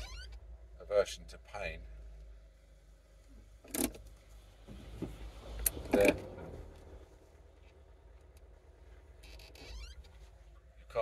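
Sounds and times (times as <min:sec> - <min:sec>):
road rumble inside car: 0:00.0 - 0:11.0.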